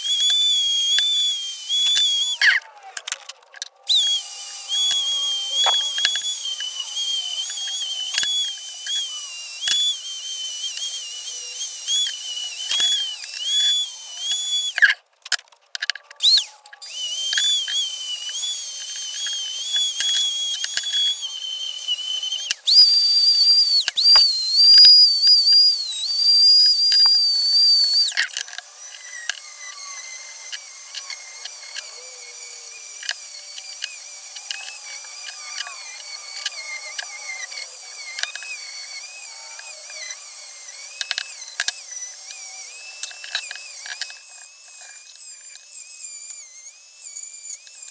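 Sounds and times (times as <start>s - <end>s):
power tool whining on metal: 0.0s - 47.9s.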